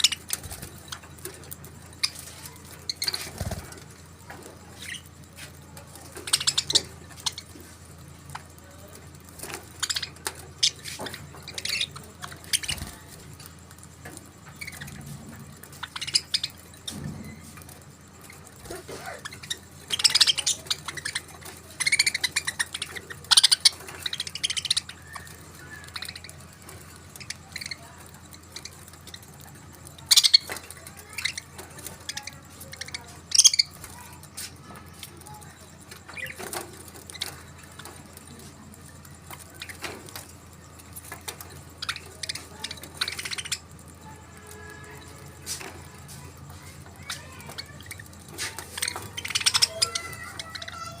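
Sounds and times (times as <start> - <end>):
budgerigars chirping and chattering: 0.0 - 51.0
steady low hum: 0.0 - 51.0
sharp high bird calls: 9.4 - 38.7, 39.3 - 51.0.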